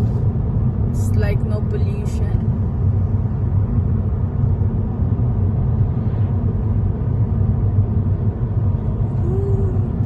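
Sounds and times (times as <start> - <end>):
car road rumble: 0.0 - 10.0.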